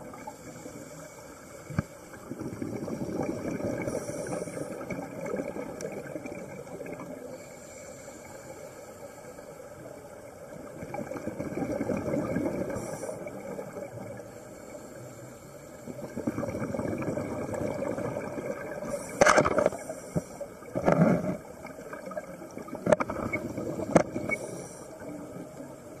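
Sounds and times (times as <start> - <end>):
underwater rushing and gurgling: 0.0 - 26.0.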